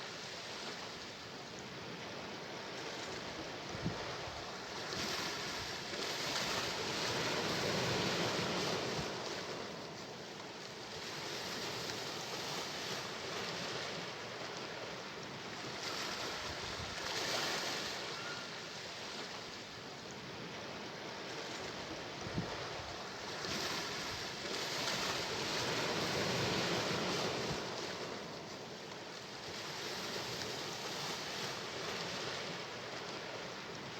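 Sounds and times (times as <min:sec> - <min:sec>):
sea waves washing ashore: 0:00.0 - 0:33.9.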